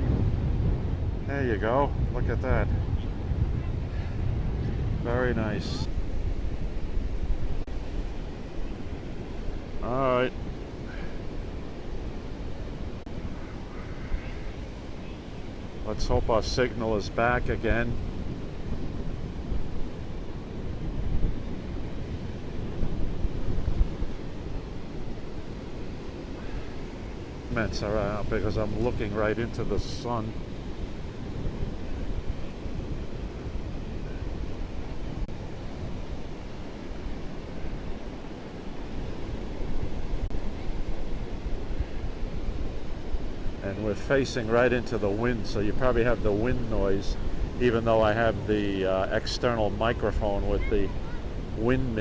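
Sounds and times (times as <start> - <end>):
wind noise on microphone: 0.0 - 9.8, 17.0 - 52.0
ocean surf washing onto beach: 0.0 - 52.0.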